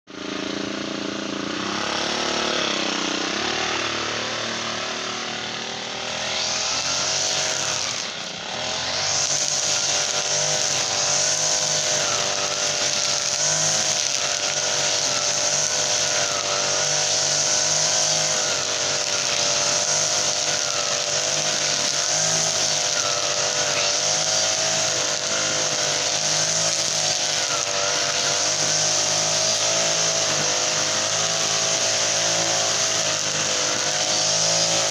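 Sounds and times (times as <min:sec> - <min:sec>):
brush cutter engine running: 0:00.1 - 0:34.9.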